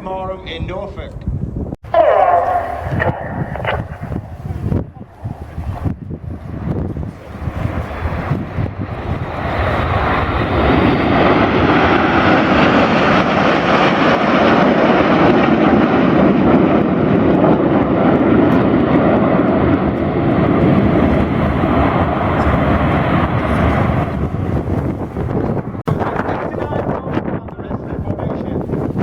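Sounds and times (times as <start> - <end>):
jet aircraft flying past: 1.9 - 27.4.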